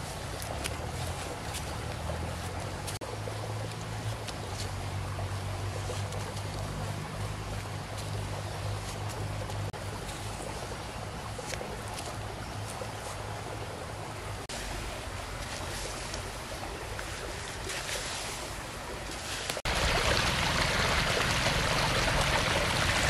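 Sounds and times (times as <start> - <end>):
rushing outdoor noise: 0.0 - 23.0.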